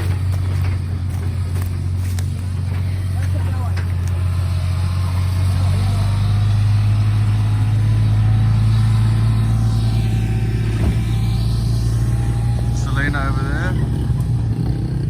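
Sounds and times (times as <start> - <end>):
small buggy engine running: 0.0 - 15.0.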